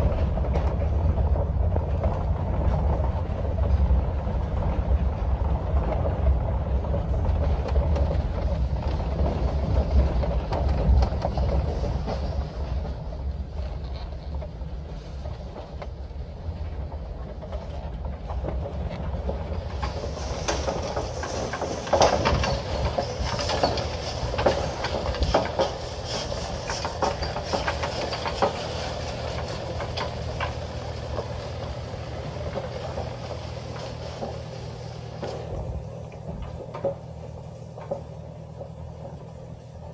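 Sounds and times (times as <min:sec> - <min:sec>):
clattering rattles and knocks: 0:00.0 - 0:39.9
low engine hum: 0:00.0 - 0:39.9
tyre noise on dirt road: 0:00.0 - 0:39.9.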